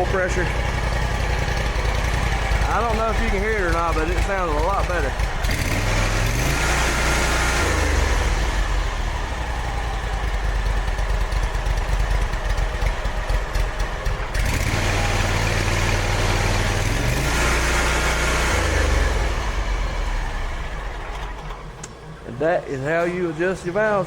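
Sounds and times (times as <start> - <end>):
mower engine running: 0.0 - 24.0.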